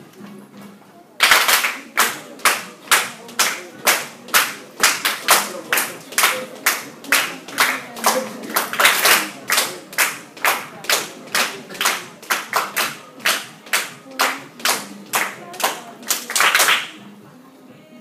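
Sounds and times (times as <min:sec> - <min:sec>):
hands clapping in rhythm: 0:01.2 - 0:17.0.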